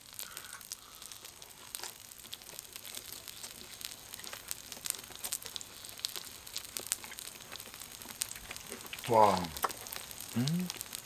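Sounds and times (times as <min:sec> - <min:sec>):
fat crackling and popping: 0:00.0 - 0:11.0
meat sizzling on a grill: 0:00.0 - 0:11.0.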